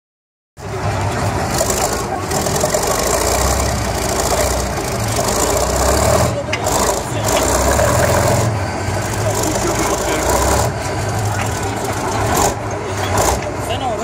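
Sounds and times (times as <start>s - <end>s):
tank diesel engine under load: 0.6s - 14.0s
tank tracks rasping and clanking: 0.6s - 14.0s.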